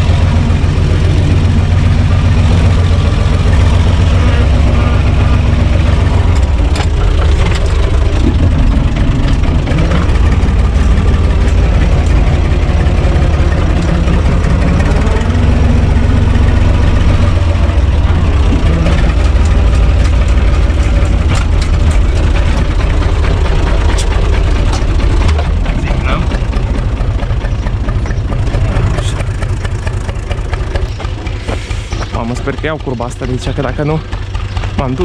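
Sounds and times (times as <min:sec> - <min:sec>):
tractor diesel engine drone: 0:00.0 - 0:35.0.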